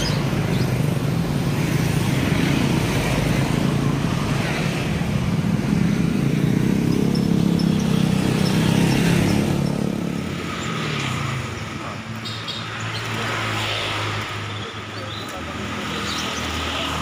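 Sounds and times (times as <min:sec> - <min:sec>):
low hum of road traffic: 0:00.0 - 0:17.0.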